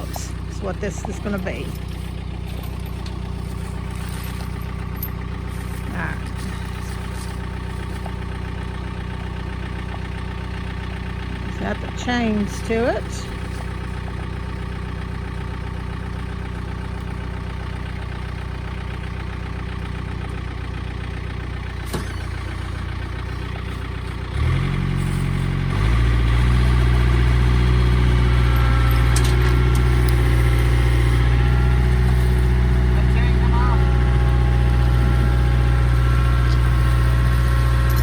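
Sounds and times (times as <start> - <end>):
tractor engine: 0.0 - 38.0.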